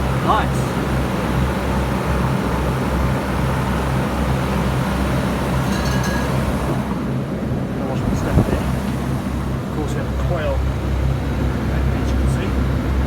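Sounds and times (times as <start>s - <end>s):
cooler fan motors humming: 0.0s - 13.0s.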